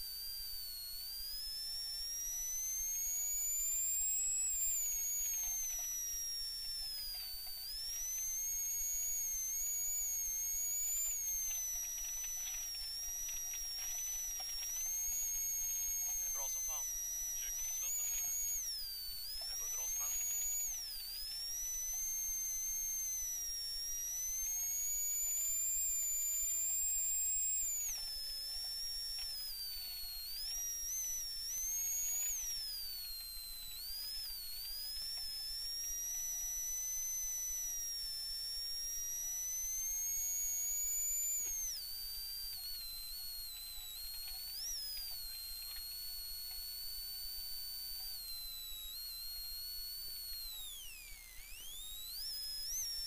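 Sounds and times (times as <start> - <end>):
high electrical whine: 0.0 - 53.0.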